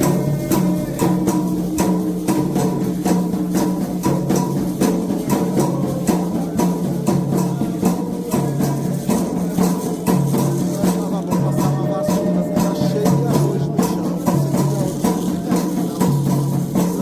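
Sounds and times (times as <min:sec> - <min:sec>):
hand drums: 0:00.0 - 0:17.0
struck bell rhythm: 0:00.0 - 0:17.0.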